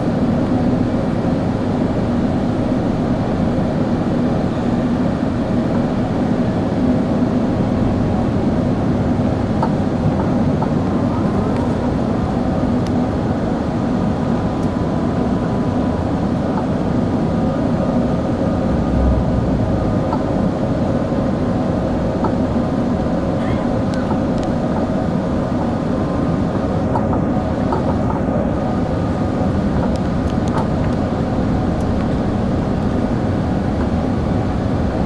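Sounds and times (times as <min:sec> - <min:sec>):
engine and airflow rumble: 0:00.0 - 0:35.0
faint steady hum: 0:00.0 - 0:35.0.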